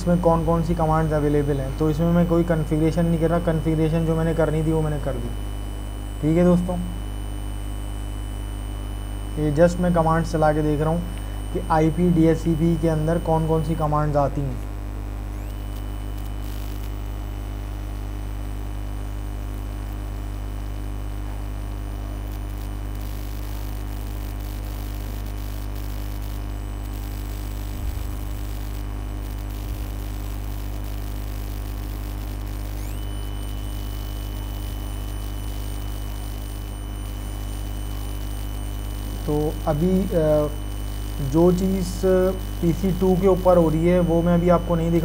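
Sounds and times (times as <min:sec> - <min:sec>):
electrical mains hum: 0:00.0 - 0:45.0
high whine: 0:00.0 - 0:45.0.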